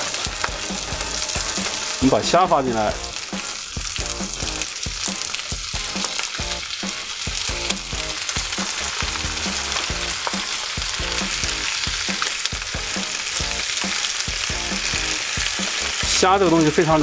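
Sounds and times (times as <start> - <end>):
shrimp sizzling in hot oil: 0.0 - 17.0.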